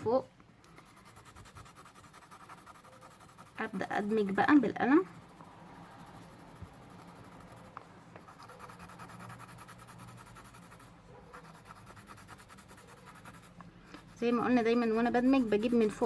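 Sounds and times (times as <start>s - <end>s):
pencil scratching on paper: 0.7s - 16.0s.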